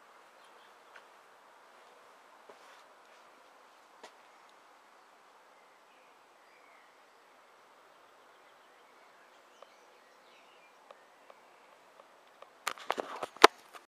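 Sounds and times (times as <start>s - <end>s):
faint birds chirping: 0.0s - 13.8s.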